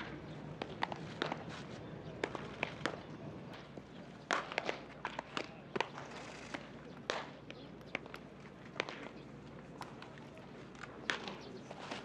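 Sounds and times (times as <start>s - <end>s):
baseballs smacking into gloves: 0.0s - 6.0s, 7.0s - 9.2s, 9.8s - 12.0s.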